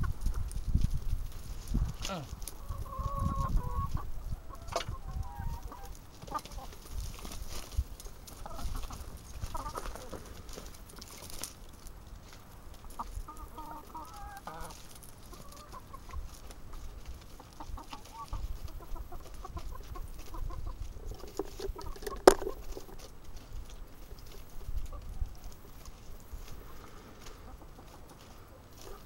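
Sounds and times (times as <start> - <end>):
hens clucking: 1.4 - 29.0.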